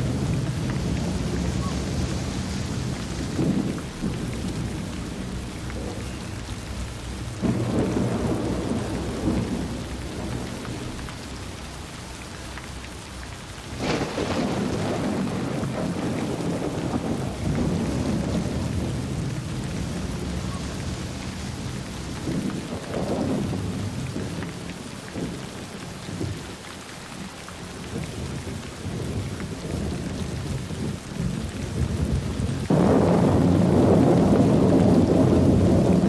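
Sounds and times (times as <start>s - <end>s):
rolling thunder: 0.0s - 12.2s, 13.6s - 26.4s, 27.9s - 36.0s
heavy rain falling: 0.0s - 36.0s.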